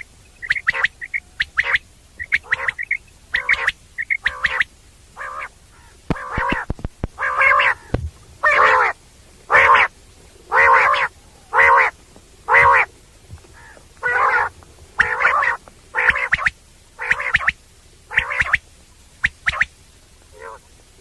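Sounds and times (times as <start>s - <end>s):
quail calling: 0.0s - 20.7s.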